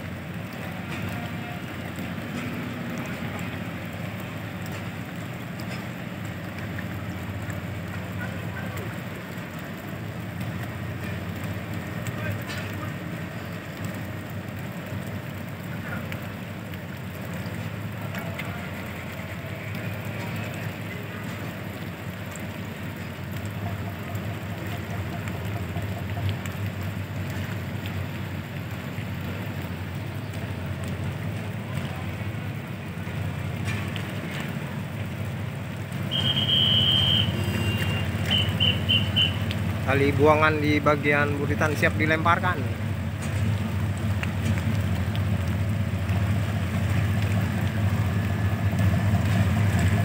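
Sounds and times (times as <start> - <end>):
heavy rain: 0.0 - 50.0.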